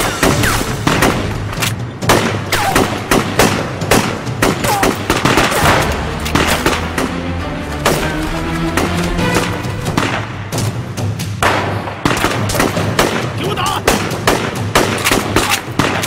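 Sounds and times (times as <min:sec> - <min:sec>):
dramatic orchestral score: 0:00.0 - 0:16.0
gunshots: 0:00.0 - 0:16.0.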